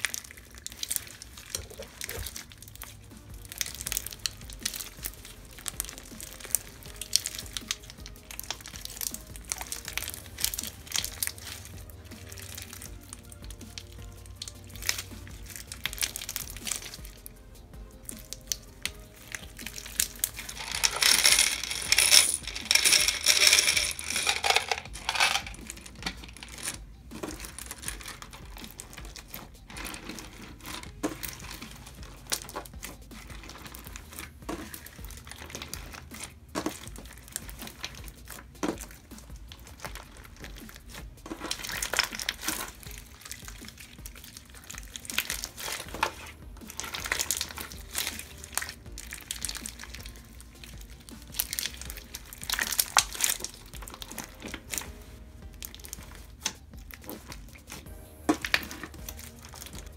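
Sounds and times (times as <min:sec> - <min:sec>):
slime crackling and popping: 0:00.0 - 0:20.9, 0:21.5 - 0:59.9.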